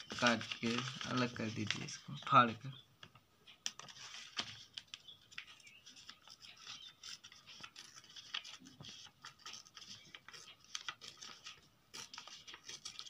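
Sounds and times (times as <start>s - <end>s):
fingers rubbing along paper folds: 0.0s - 2.6s, 3.6s - 13.0s
paper rustling: 0.0s - 13.0s.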